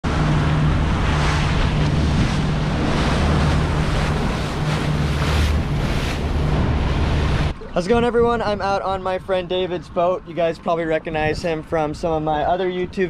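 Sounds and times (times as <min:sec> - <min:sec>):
boat engine hum: 0:00.0 - 0:13.0
water and waves rushing: 0:00.0 - 0:13.0
wind buffeting microphone: 0:00.0 - 0:13.0.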